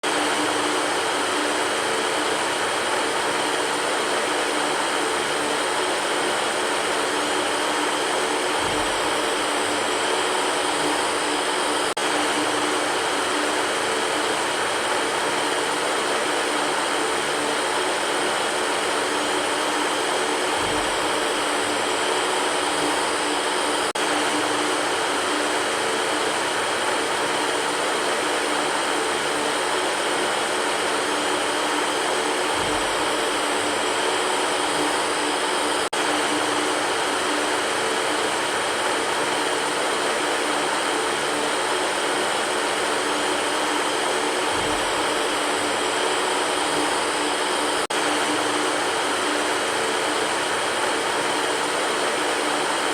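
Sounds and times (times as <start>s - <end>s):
electric fan whooshing: 0.1s - 52.9s.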